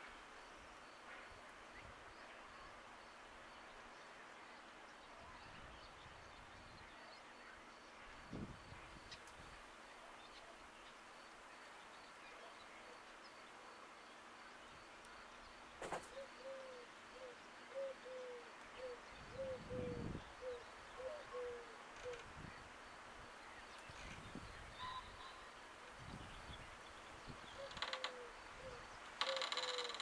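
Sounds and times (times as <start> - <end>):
faint outdoor background: 0.0 - 30.0.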